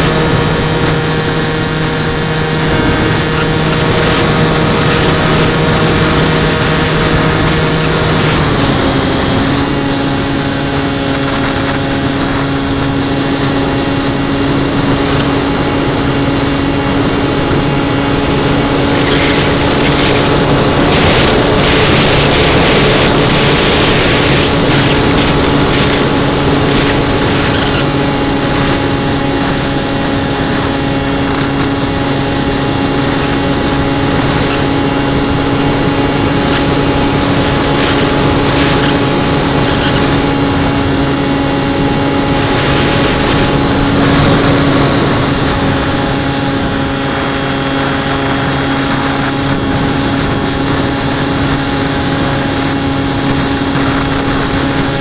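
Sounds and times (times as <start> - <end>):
electric motor and propeller hum: 0.0 - 55.0
wind rush on microphone: 0.0 - 55.0.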